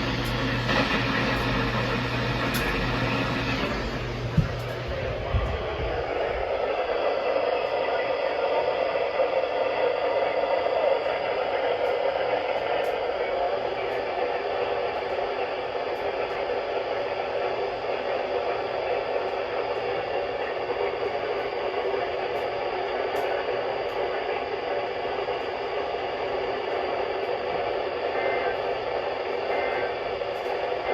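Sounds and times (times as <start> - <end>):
radio static hiss: 0.0 - 30.9.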